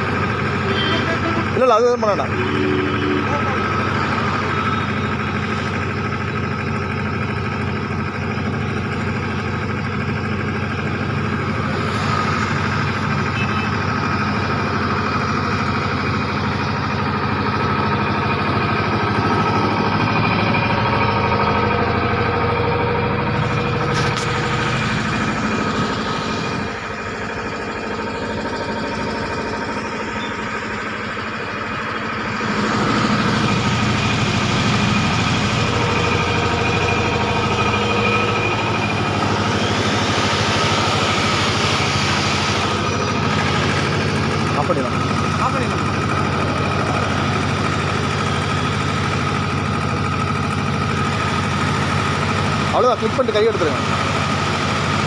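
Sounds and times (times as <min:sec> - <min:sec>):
diesel generator humming: 0:00.0 - 0:55.0.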